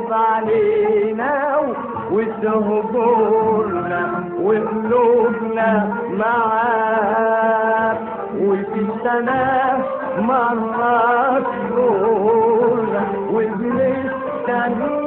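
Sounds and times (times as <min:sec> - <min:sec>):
person singing ornamented notes: 0:00.0 - 0:15.0
sustained musical accompaniment: 0:00.0 - 0:15.0.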